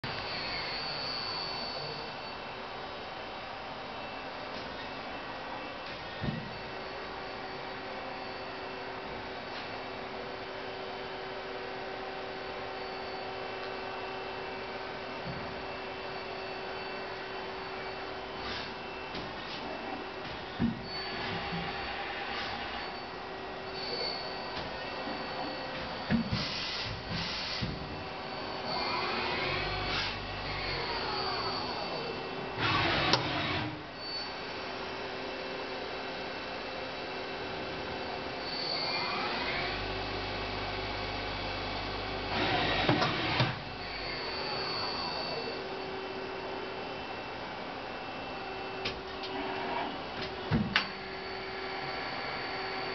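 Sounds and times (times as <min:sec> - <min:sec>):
lathe machine humming and whining: 0:00.0 - 0:52.9.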